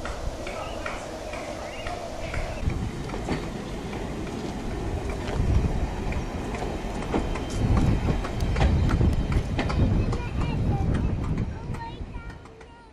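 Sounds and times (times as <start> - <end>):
train wheels rumbling: 0.0 - 12.9
wheels clicking over rail joints: 0.0 - 12.9.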